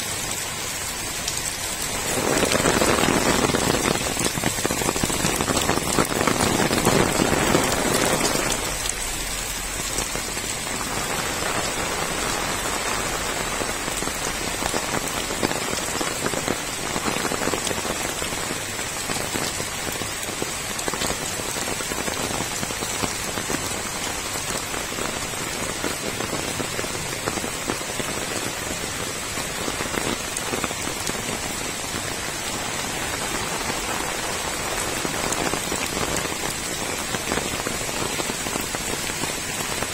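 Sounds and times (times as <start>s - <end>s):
heavy rain on wet ground: 0.0s - 39.9s.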